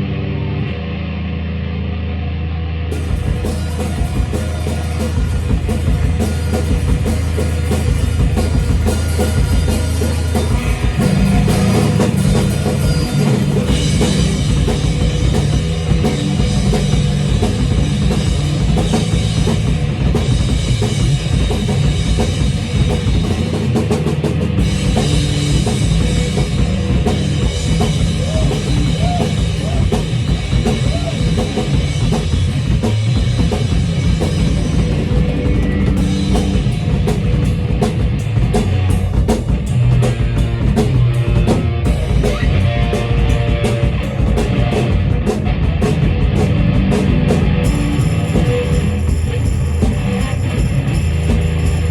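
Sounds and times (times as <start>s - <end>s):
bass: 0.0s - 51.9s
instrumental rock music: 0.0s - 51.9s
drum kit beat: 2.9s - 51.9s.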